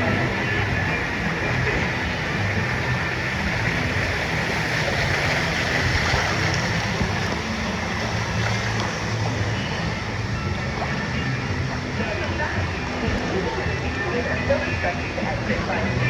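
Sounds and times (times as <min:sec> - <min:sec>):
churning water rushing: 0:00.0 - 0:16.0
low hum: 0:00.0 - 0:16.0.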